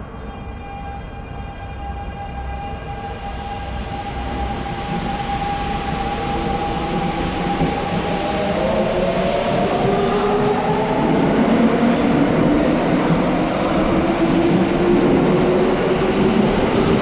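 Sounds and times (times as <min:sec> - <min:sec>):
train rumbling past: 0:03.0 - 0:17.0.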